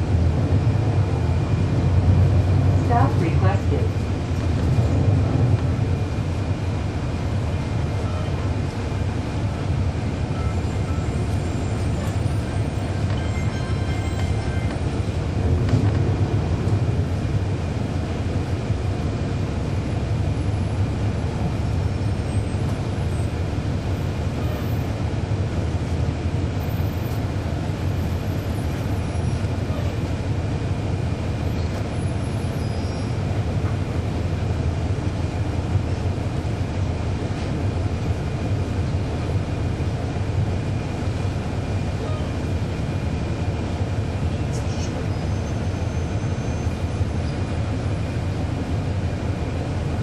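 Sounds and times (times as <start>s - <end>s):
bus diesel engine rumble: 0.0s - 50.0s.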